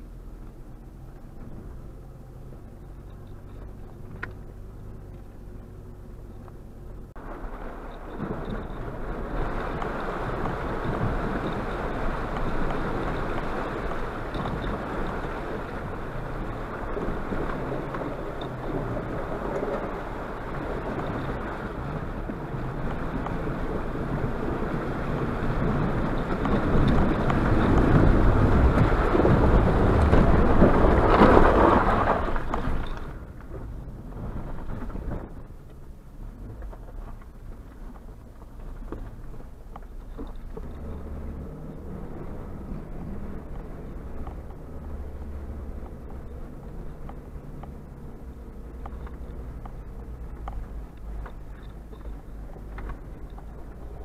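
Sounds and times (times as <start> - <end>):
water splashing against vehicle: 0.1 - 54.0.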